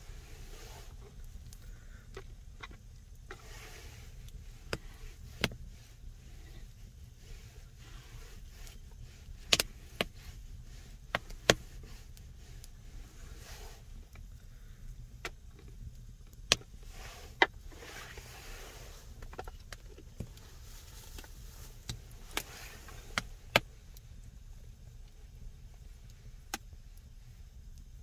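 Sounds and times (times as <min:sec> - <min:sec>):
low steady rumble: 0:00.0 - 0:28.0
soft rustling: 0:00.0 - 0:28.0.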